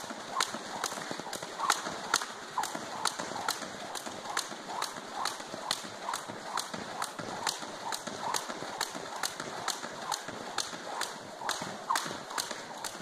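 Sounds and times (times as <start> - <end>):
jump rope slapping wooden floor: 0.0 - 13.0.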